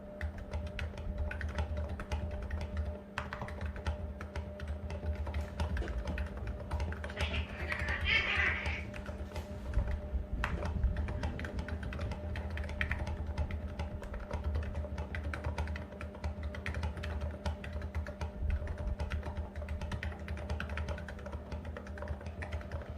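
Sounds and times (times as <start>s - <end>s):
fast keyboard typing: 0.0s - 22.9s.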